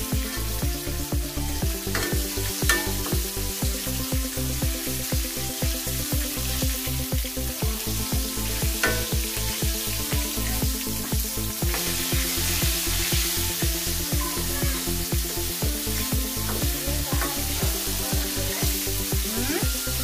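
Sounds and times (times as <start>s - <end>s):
background music with steady beat: 0.0s - 20.0s
chicken sizzling in oil: 0.0s - 20.0s.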